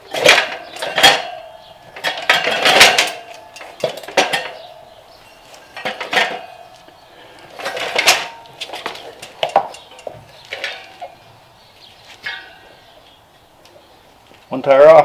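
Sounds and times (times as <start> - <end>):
tire irons clinking on rim: 0.0 - 15.0.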